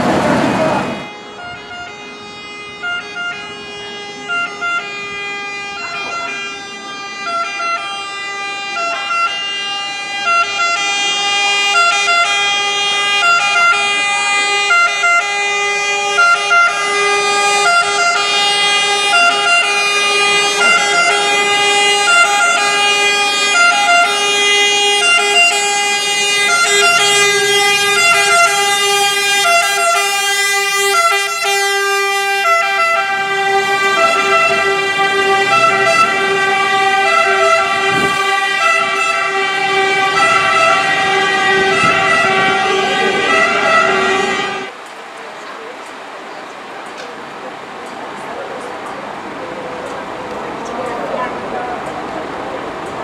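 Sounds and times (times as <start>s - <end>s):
fire engine two-tone siren: 0.0s - 44.8s.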